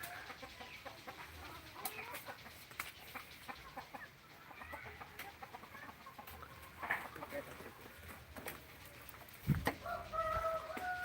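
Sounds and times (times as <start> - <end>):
birds chirping and clucking: 0.0 - 11.0.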